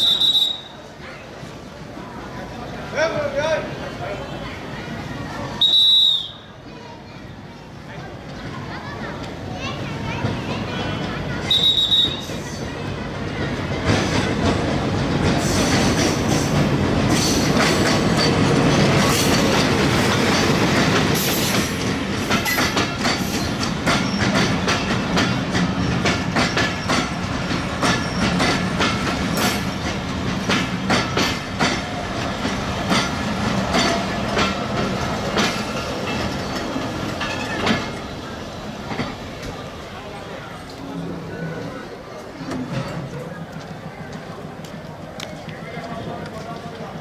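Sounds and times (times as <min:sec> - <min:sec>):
locomotive engine rumbling: 0:07.5 - 0:47.0
train wheels clickety-clack: 0:07.9 - 0:40.8, 0:42.2 - 0:47.0.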